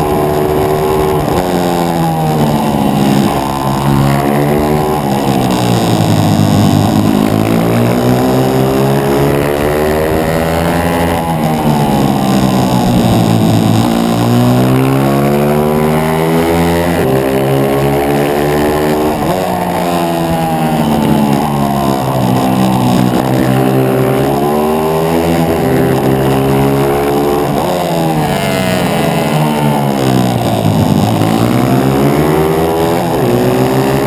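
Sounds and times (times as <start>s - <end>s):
pit bike engine revving: 0.0s - 34.0s.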